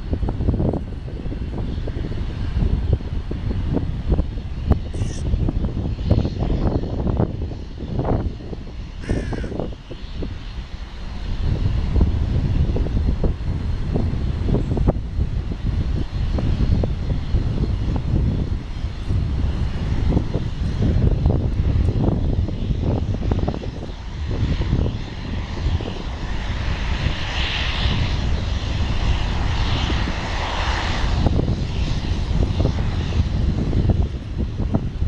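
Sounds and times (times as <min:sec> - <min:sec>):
jet airliner engines: 0:00.0 - 0:35.0
wind buffeting microphone: 0:00.0 - 0:35.0.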